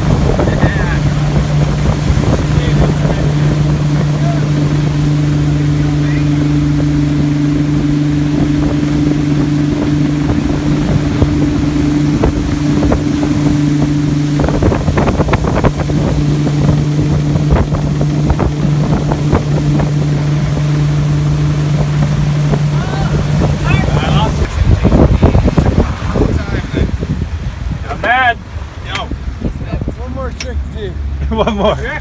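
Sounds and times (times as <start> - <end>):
wind buffeting microphone: 0.0 - 31.3
boat engine drone: 0.0 - 32.0
water rushing: 0.0 - 32.0
water splashes: 0.0 - 32.0.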